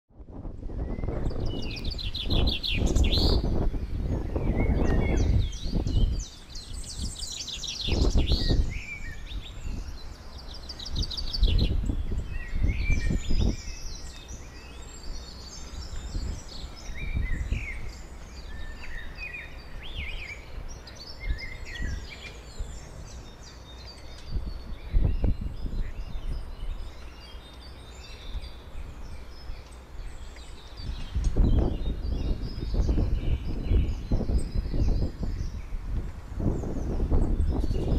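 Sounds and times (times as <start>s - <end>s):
wind buffeting microphone: 0.1s - 37.9s
songbirds chirping and trilling: 0.2s - 37.9s.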